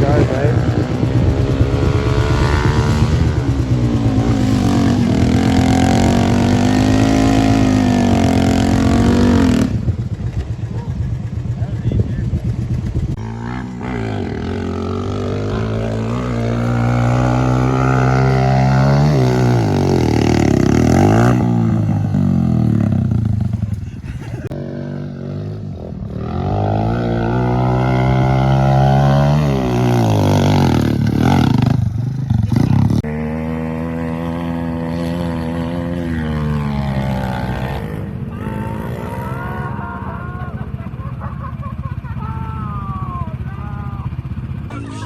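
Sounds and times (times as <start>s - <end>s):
off-road engine revving: 0.0s - 45.0s.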